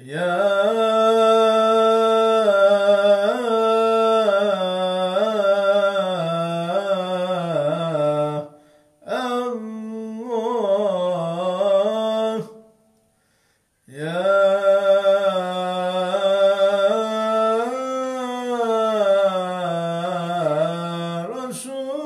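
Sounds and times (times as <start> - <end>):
man chanting: 0.0 - 12.8, 13.9 - 22.0.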